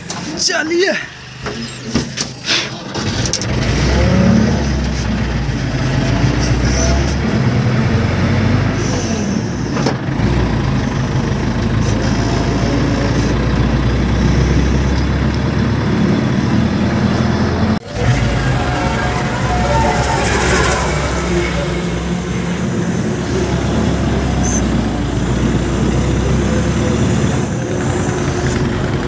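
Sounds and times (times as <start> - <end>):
diesel crane engine under load: 0.0 - 29.0.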